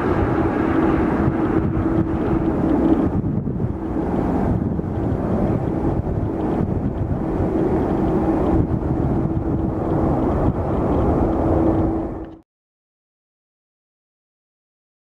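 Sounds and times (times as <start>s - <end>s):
jet engines rumbling: 0.0s - 12.4s
wind buffeting microphone: 0.0s - 12.4s.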